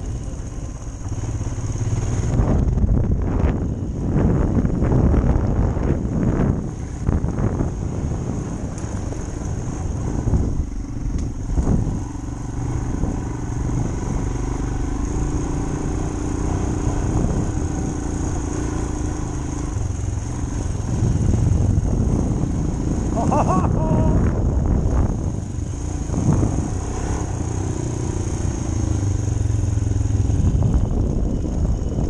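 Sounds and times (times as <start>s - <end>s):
motorcycle engine running low speed: 0.0s - 32.0s.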